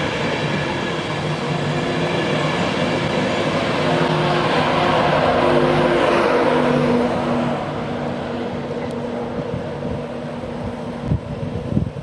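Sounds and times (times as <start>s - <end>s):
locomotive motor hum: 0.0s - 12.0s
rush of wheel and air noise: 0.0s - 12.0s.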